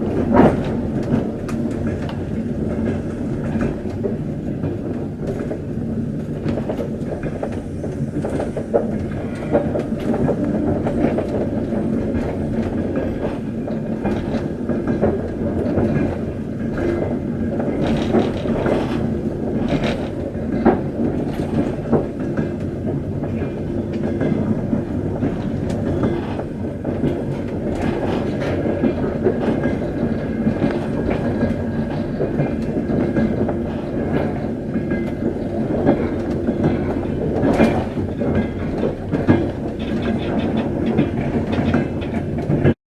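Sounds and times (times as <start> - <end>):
train wheels rumbling on rail: 0.0 - 42.8.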